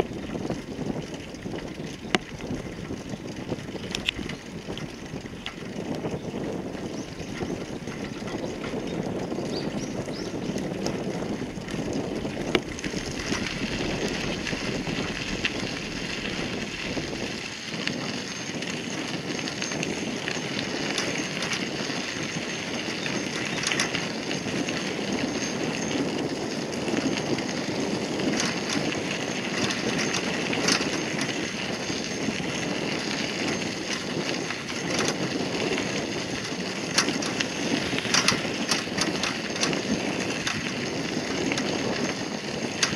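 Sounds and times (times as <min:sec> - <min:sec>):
bicycle clicks and rattles: 0:00.0 - 0:42.9
bicycle tyres crunching on gravel: 0:00.0 - 0:42.9
wind rumble on microphone: 0:00.0 - 0:42.9.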